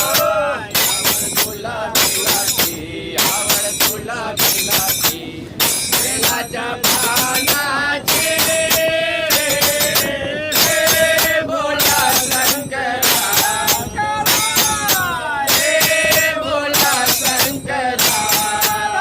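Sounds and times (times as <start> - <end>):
jingling hand percussion: 0.0 - 19.0.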